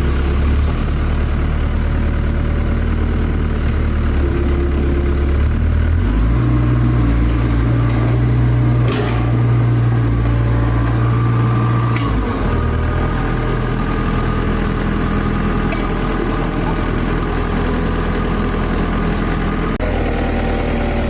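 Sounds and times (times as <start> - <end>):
large engine running: 0.0 - 21.0.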